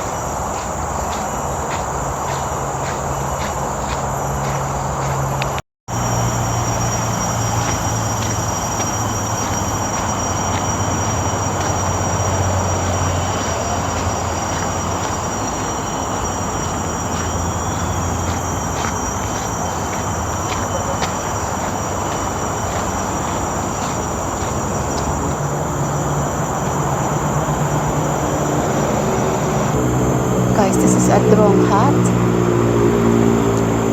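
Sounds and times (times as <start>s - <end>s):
high insect drone: 0.0s - 33.9s
road traffic rumble: 0.0s - 33.9s.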